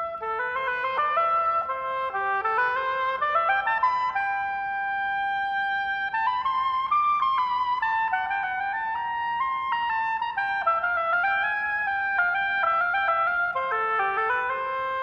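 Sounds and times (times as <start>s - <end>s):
solo oboe playing: 0.0s - 15.0s.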